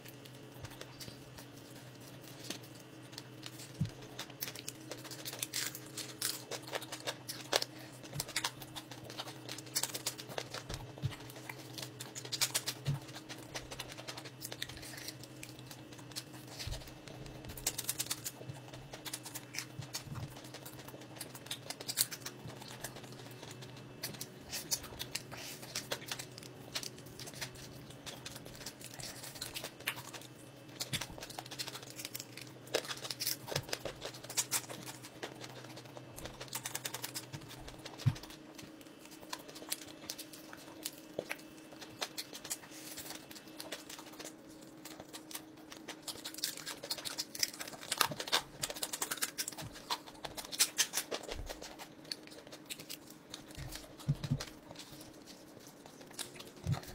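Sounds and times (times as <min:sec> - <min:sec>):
crisp fish skin crackling: 0:00.0 - 0:56.9
low steady hum: 0:00.0 - 0:56.9.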